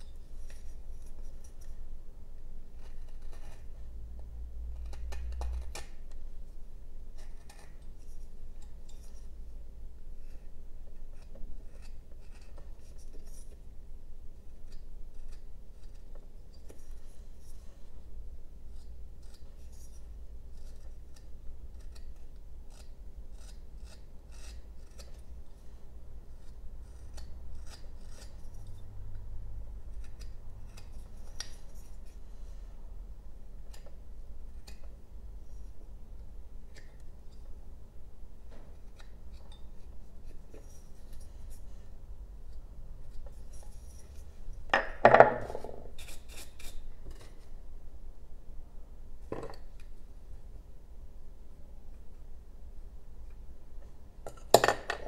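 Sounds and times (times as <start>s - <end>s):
knife carving wood: 0.0s - 17.8s, 18.6s - 32.7s, 33.4s - 37.6s, 38.5s - 41.9s, 42.5s - 47.5s.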